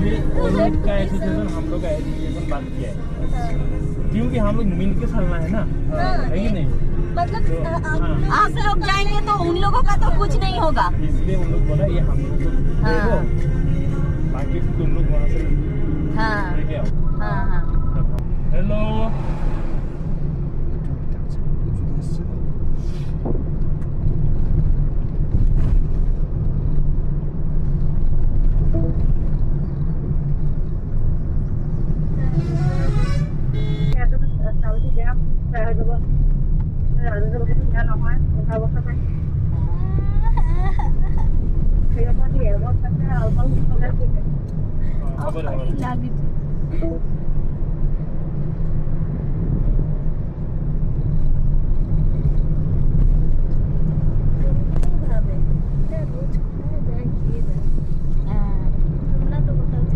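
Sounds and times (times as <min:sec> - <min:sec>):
vehicle rumbling on road: 0:00.0 - 0:59.9.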